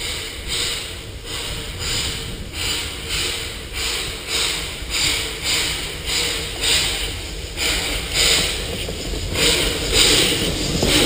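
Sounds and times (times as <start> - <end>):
steam locomotive chuffing: 0.0 - 11.0.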